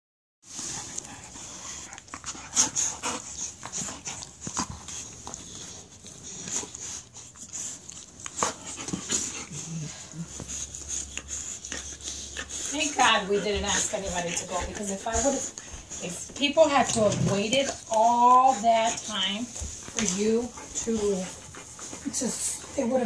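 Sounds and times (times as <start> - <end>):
dogs play-fighting: 0.5 - 23.0.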